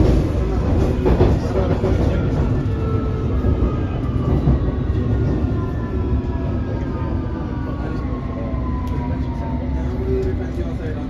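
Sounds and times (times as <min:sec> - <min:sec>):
rumble of wheels on track: 0:00.0 - 0:11.0.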